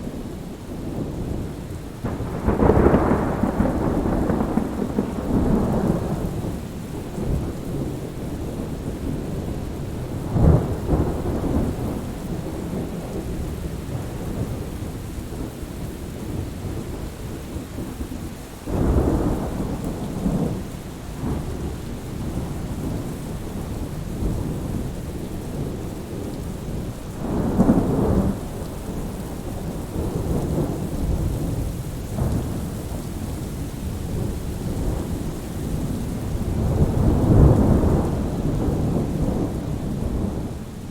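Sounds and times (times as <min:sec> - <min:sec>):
rolling thunder: 0:00.0 - 0:40.9
steady rain: 0:00.0 - 0:40.9.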